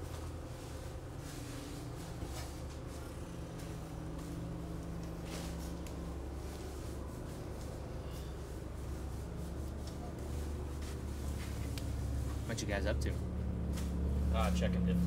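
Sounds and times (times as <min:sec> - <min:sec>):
steady low hum: 0:00.0 - 0:15.0
faint clicks and rustles: 0:00.1 - 0:12.5.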